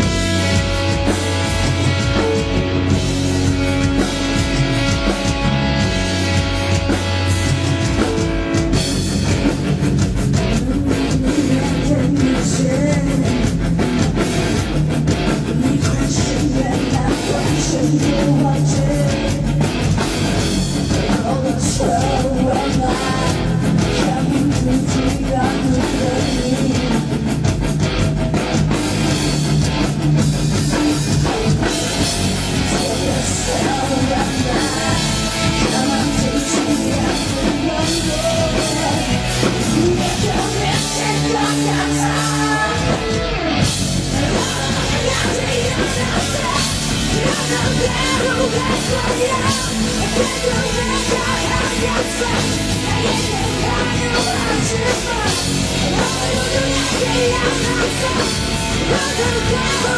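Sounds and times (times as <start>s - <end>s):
metal rock music: 0.0s - 59.9s
rapid driving drum hits: 0.0s - 59.9s.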